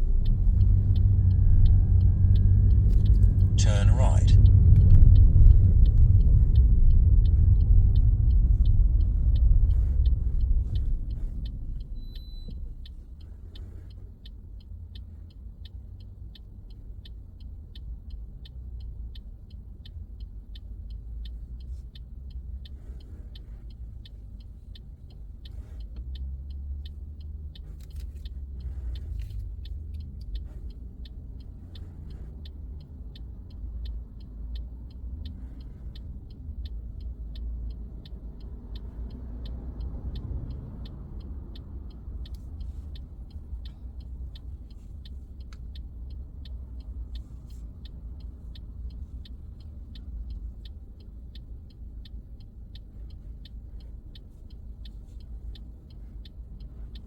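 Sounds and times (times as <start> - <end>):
car road and engine rumble: 0.0 - 57.0
turn indicator ticking: 0.0 - 57.0.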